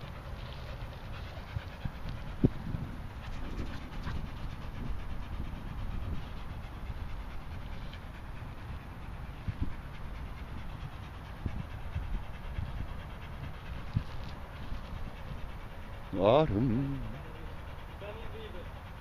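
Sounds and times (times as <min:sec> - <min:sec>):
dogs panting: 0:00.0 - 0:19.0
low steady rumble: 0:00.0 - 0:19.0.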